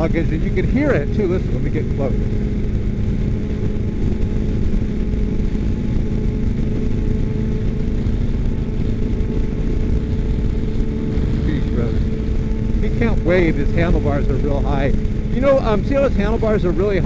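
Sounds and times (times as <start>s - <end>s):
heavy wind noise: 0.0s - 17.0s
motorcycle engine and exhaust drone: 0.0s - 17.0s
motorcycle engine running: 0.0s - 17.0s.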